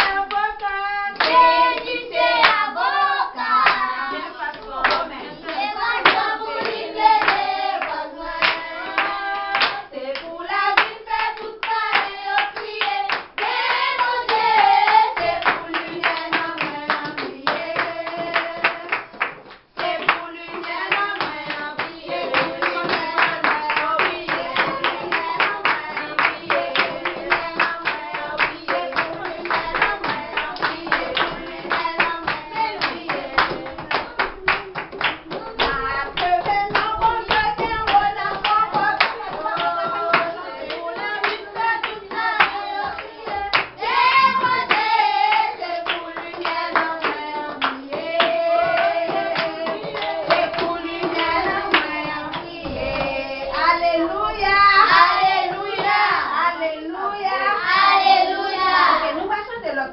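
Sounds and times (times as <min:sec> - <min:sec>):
children singing: 0:00.0 - 0:19.1, 0:19.8 - 0:59.2
hands clapping a steady beat: 0:00.0 - 0:56.3.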